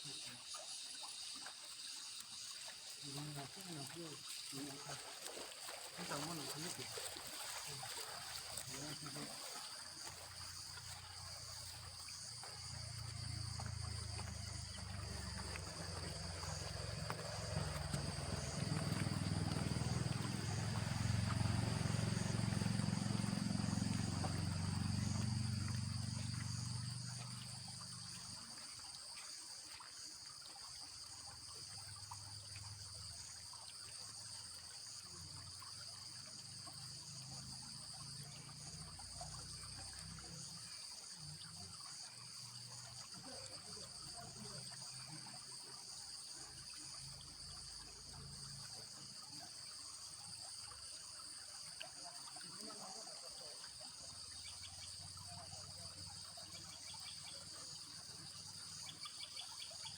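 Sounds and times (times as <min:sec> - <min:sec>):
high insect chorus: 0:00.0 - 0:59.9.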